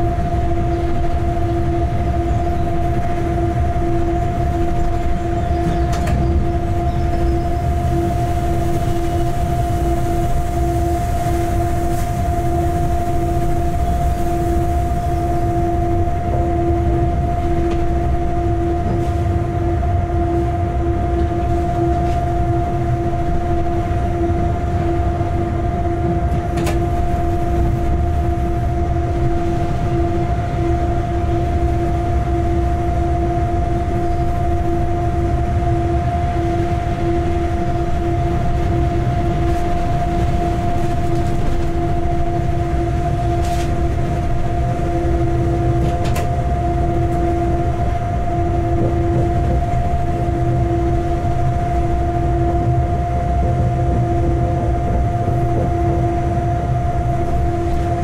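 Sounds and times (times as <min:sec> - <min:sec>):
locomotive rumble and hum: 0:00.0 - 0:58.0.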